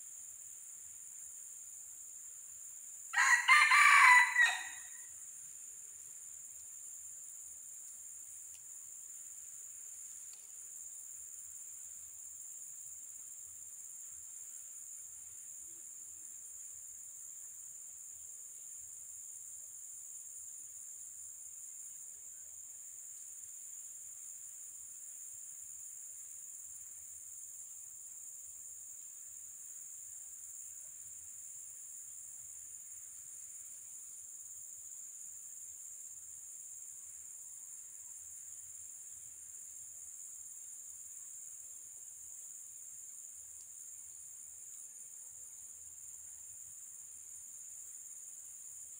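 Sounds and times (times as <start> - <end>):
insect chorus drone: 0.0 - 48.9.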